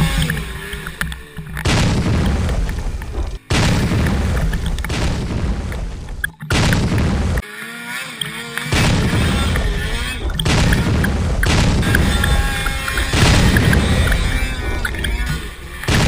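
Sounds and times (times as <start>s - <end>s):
snowmobile engine running: 0.0s - 16.0s.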